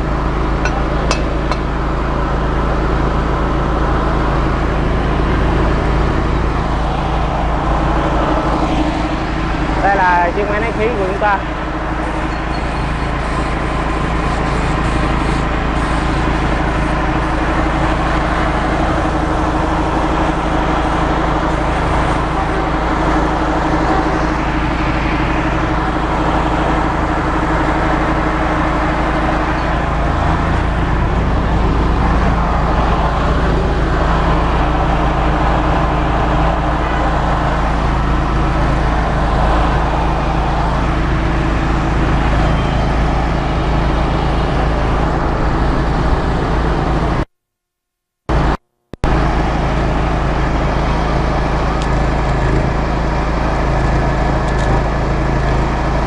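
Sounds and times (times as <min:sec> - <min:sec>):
air compressor running: 0:00.0 - 0:47.3, 0:48.3 - 0:56.0
generator running: 0:00.0 - 0:47.3, 0:48.3 - 0:56.0.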